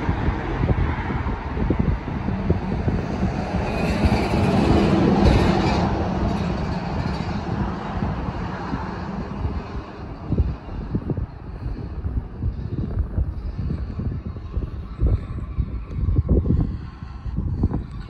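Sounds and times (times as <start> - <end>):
heavy vehicle passing: 0.0 - 17.8
wind rumbling on microphone: 0.0 - 18.0.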